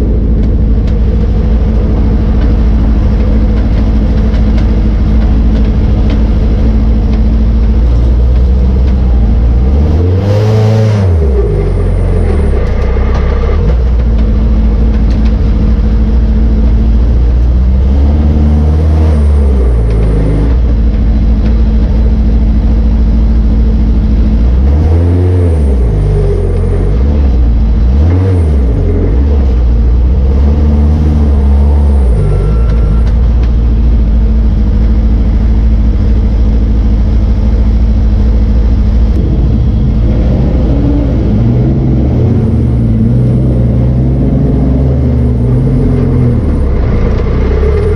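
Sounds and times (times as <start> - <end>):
race car engine revving: 0.0 - 47.9.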